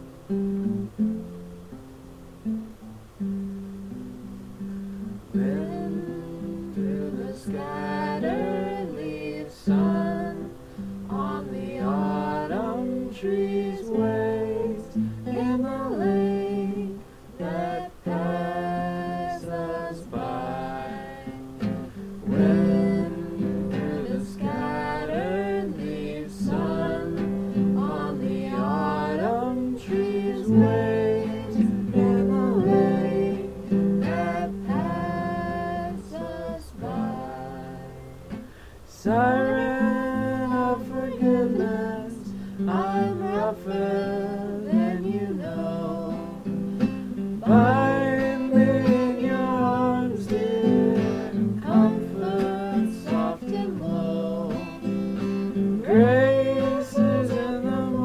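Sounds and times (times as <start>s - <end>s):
acoustic guitar: 0.0s - 58.0s
person singing: 5.1s - 58.0s.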